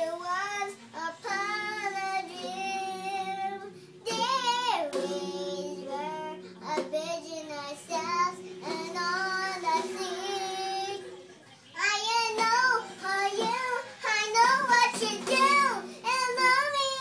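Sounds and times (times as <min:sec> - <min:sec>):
girl singing: 0:00.0 - 0:11.1, 0:11.8 - 0:17.0.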